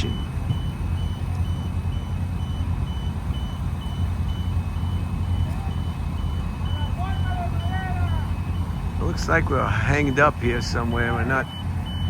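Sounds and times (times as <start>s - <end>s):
back-up alarm beeping: 0.0s - 12.0s
diesel engine rumbling: 0.0s - 12.0s.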